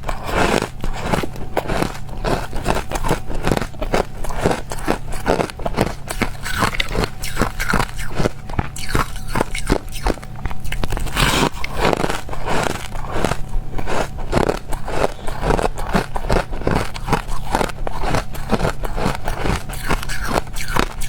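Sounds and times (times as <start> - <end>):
ice crunching: 0.0 - 20.9.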